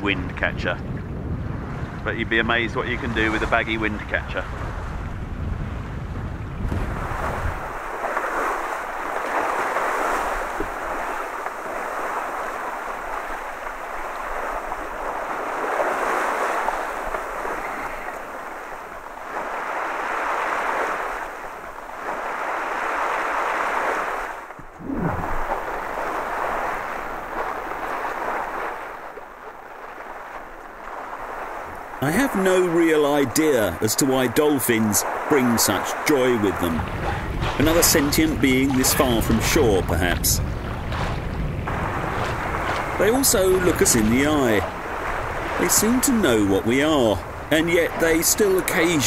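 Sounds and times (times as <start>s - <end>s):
wind on microphone: 0.0s - 29.1s, 36.6s - 48.5s
water splashing along boat hull: 0.9s - 49.0s.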